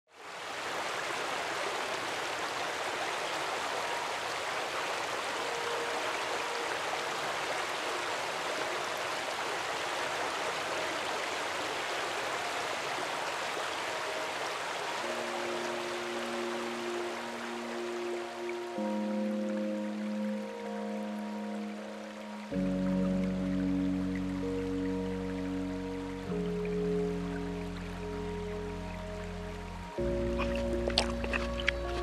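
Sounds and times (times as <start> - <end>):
forest stream rushing: 0.1 - 32.0.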